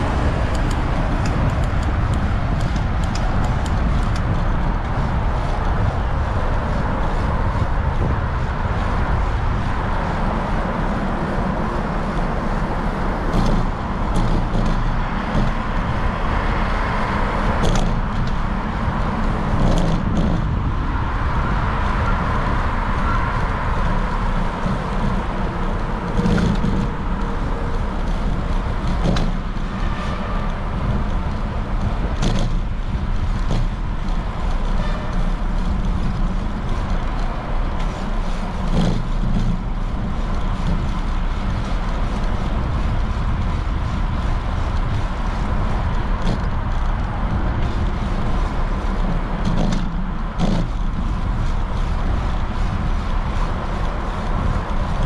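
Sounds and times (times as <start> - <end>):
cars passing: 0.0 - 55.0
steady low rumble: 0.0 - 55.0.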